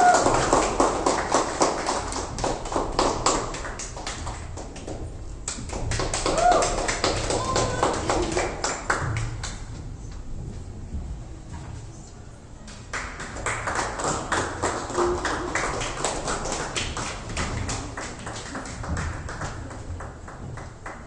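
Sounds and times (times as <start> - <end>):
group hand clapping: 0.0 - 9.8, 12.7 - 21.0.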